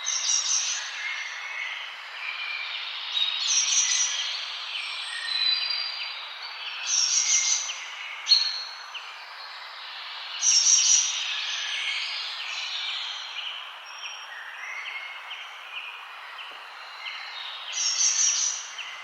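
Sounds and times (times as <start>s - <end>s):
forest birds singing: 0.0s - 19.0s
steady background hiss: 0.0s - 19.0s.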